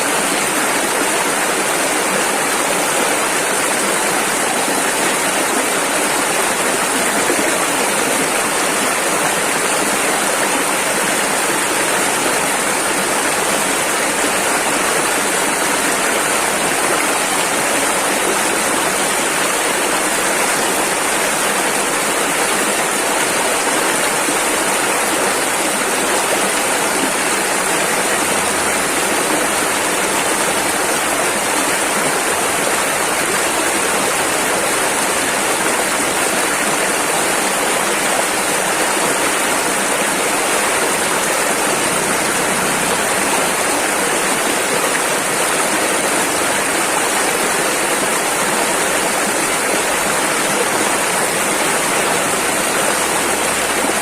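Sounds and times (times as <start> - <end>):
river rushing over rapids: 0.0 - 54.0.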